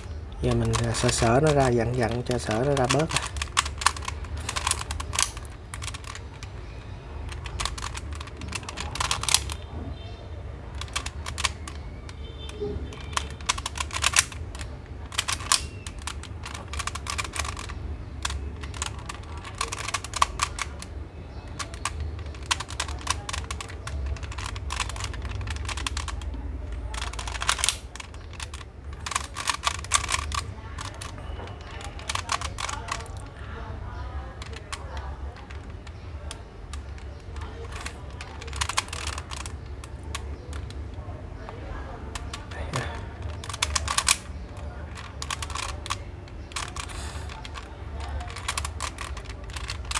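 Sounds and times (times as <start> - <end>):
plastic puzzle cube clicking: 0.0 - 9.6, 10.7 - 49.9.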